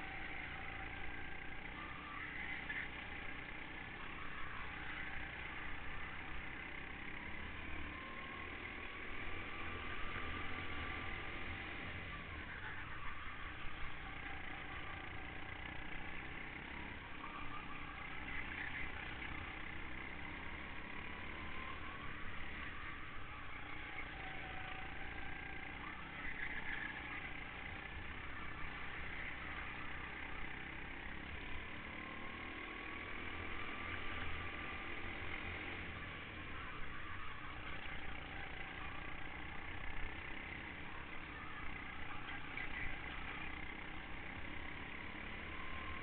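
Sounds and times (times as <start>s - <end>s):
kart engine running at speed: 0.0s - 46.0s.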